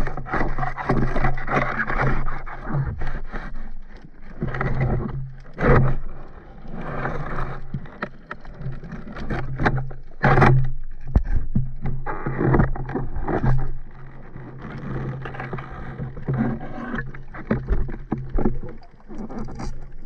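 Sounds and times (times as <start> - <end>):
underwater scraping and rustling: 0.0 - 20.0.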